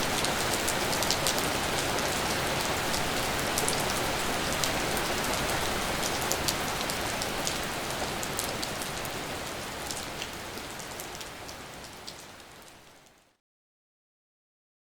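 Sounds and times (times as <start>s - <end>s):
steady rain falling: 0.0s - 13.4s.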